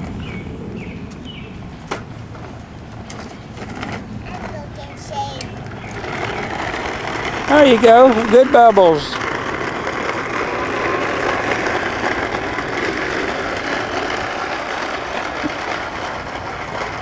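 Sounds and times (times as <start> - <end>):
toy lawn mower motor whirring: 1.8 - 17.0.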